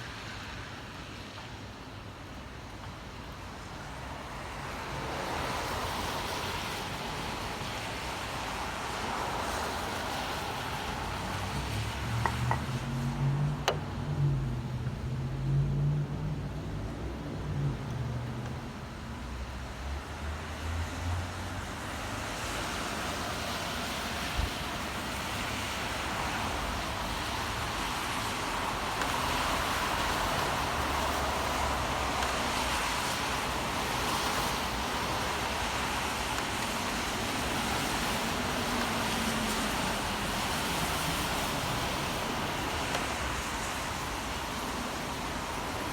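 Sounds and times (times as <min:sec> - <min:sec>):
steady rain: 0:00.0 - 0:45.9
street traffic: 0:00.0 - 0:45.9.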